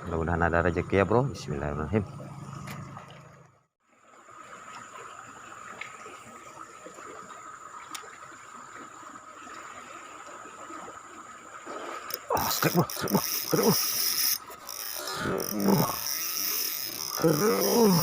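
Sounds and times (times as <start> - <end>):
river water trickling: 0.1 - 18.0.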